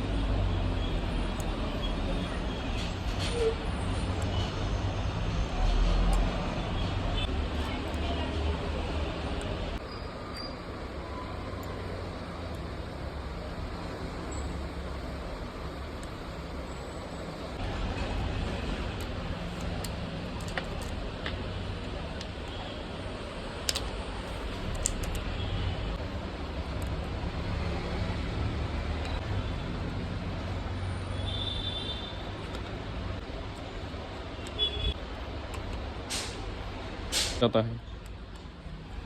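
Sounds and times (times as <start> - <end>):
low traffic rumble: 0.0 - 39.0.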